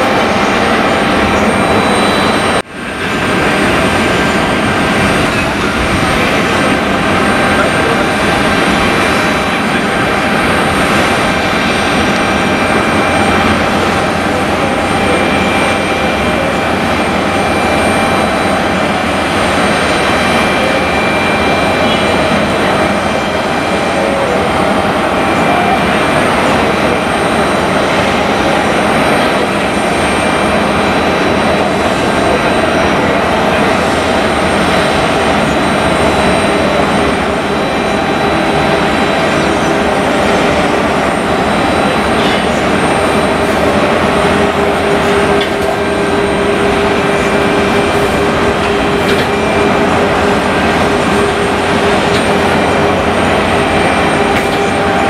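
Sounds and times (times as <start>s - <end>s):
jet airliner engines running: 0.0s - 55.0s.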